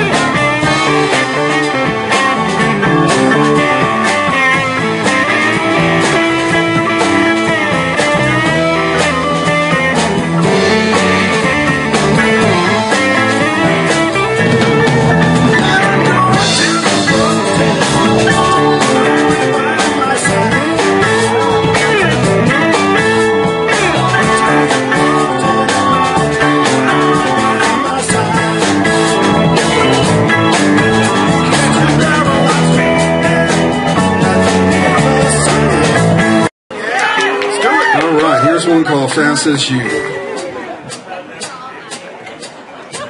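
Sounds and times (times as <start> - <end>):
sliding guitar notes: 0.0 - 36.5
electric guitar lead: 0.0 - 40.9
rock band playing: 0.0 - 43.0.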